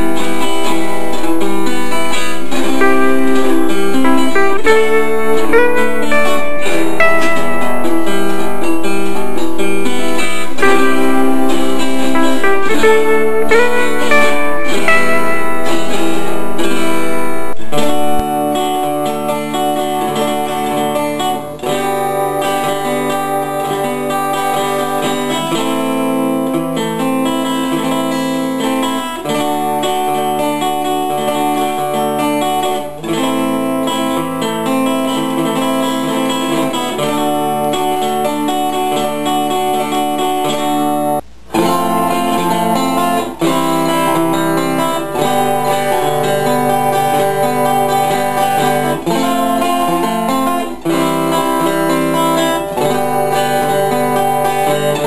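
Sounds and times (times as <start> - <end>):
live electric guitar: 0.0 - 55.0
pre-recorded guitar riffs: 0.0 - 55.0.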